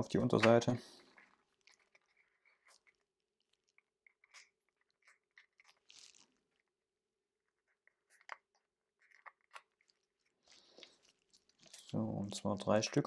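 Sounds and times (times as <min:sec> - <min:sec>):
paper crinkling and ticking: 0:00.0 - 0:06.8, 0:07.4 - 0:13.0.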